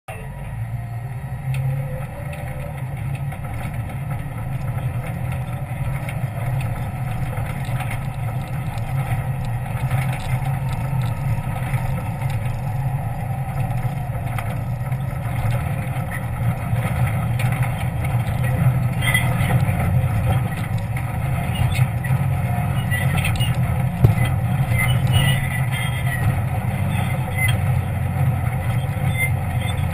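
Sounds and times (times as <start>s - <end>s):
vehicle engine running: 0.1s - 29.9s.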